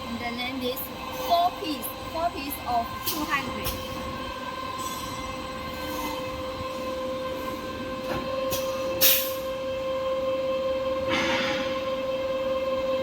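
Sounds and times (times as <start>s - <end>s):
machinery whining: 0.0s - 13.0s.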